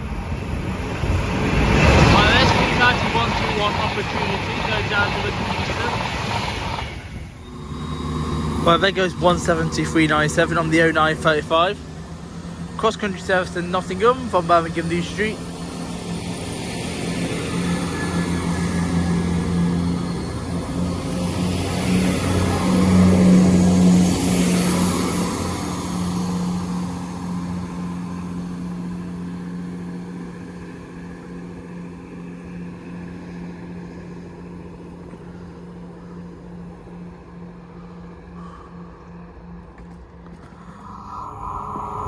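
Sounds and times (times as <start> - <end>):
diesel train passing: 0.0 - 42.0.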